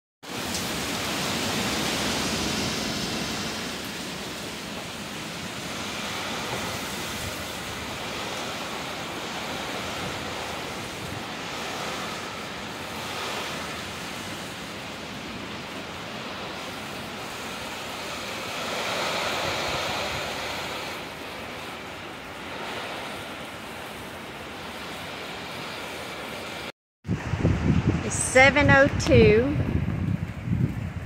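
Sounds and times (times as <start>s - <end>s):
heavy rain on a metal roof: 0.2s - 28.0s, 29.6s - 31.0s
gusting wind: 0.2s - 31.0s.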